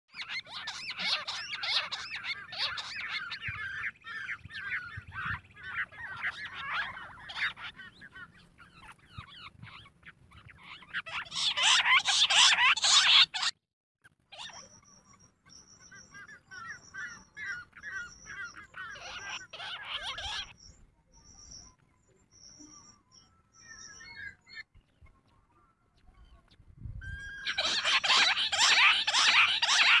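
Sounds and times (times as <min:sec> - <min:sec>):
quail chirping and whistling: 0:00.1 - 0:13.6, 0:14.4 - 0:30.0.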